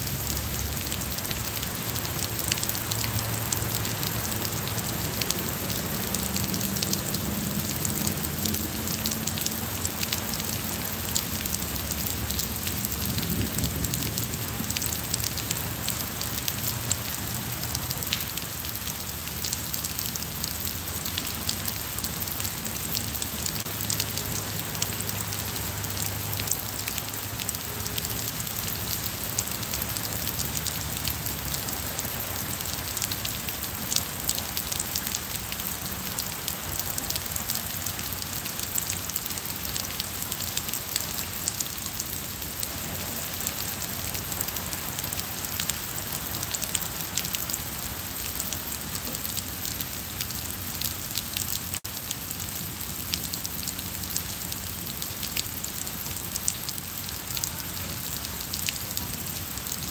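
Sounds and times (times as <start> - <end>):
rain on paving and plants: 0.0 - 59.9.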